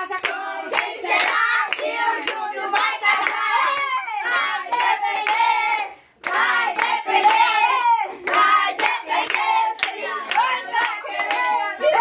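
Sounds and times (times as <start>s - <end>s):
group singing: 0.0s - 12.0s
rhythmic clapping: 0.0s - 12.0s.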